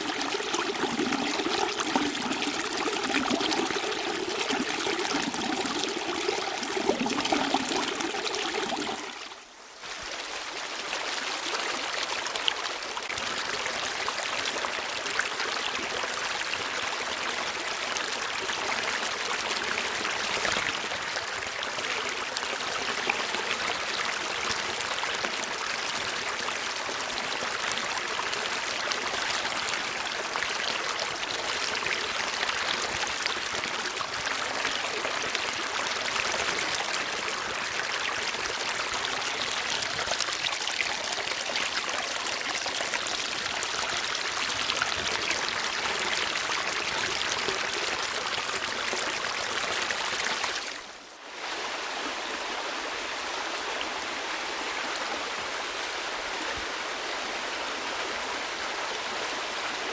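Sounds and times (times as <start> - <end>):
stream trickling: 0.0 - 56.4.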